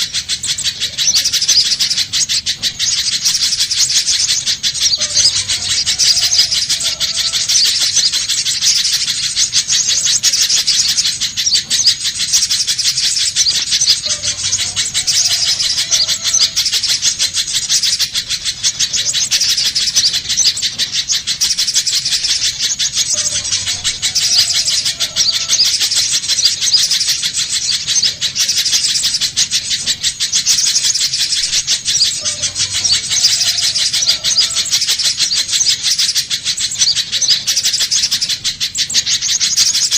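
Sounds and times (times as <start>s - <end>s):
bird calling high sharp chips: 0.0s - 39.9s.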